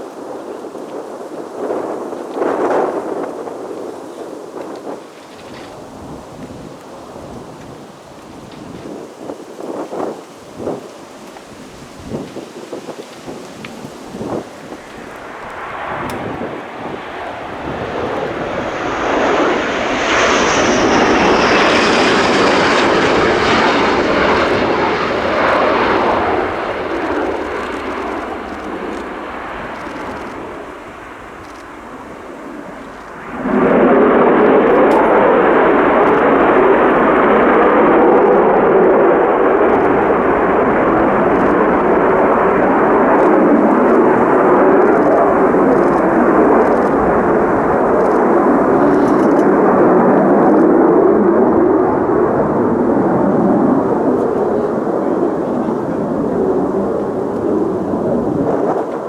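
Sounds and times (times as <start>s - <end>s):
jet aircraft passing: 0.0s - 59.0s
loud jet noise: 0.0s - 59.0s.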